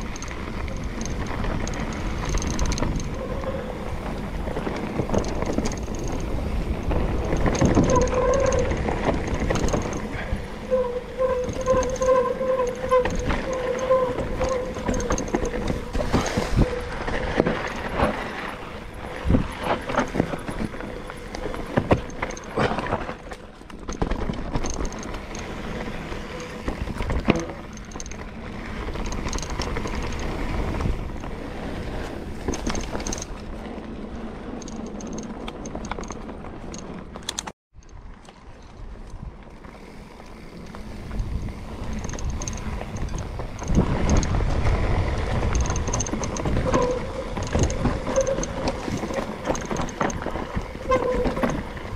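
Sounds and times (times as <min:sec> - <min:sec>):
bike knocking and rattling: 0:00.0 - 0:51.9
bike tyres on dirt trail: 0:00.0 - 0:51.9.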